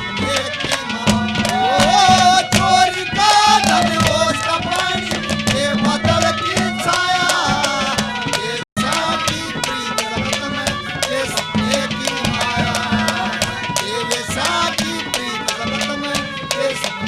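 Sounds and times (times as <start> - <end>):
hand drum beating: 0.0 - 17.0
wavering melodic line: 0.0 - 17.0.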